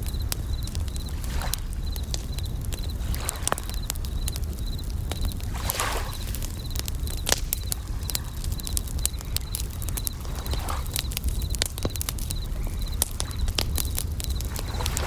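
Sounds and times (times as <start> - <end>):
bell crickets chirping: 0.0 - 13.5
campfire crackling and popping: 0.0 - 15.0.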